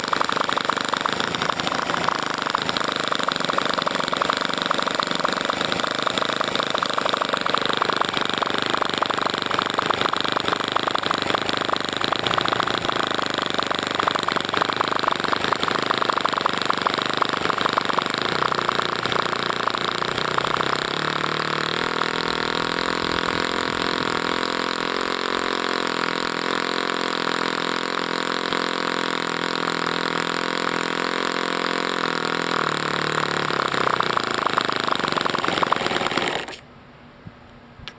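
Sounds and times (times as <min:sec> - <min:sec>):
model airplane engine running: 0:00.0 - 0:36.6.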